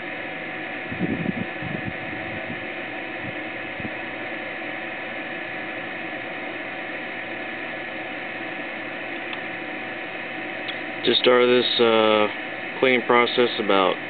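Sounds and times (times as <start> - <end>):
electric water pump whining: 0.0 - 14.0.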